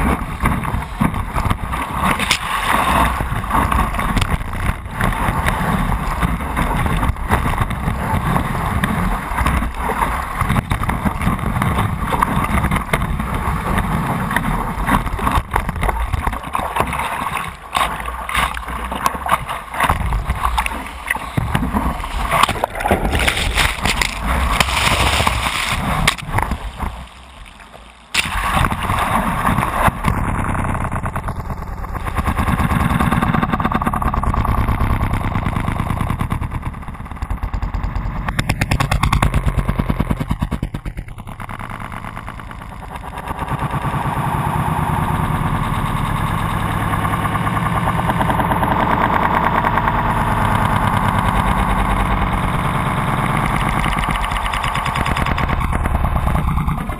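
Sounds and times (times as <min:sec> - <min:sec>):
muffled water rushing and splashing: 0:00.0 - 0:56.9.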